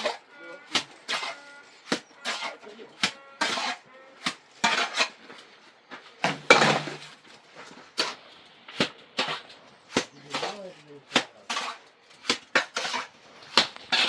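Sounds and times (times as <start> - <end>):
scraping rasps: 0.0 - 14.0.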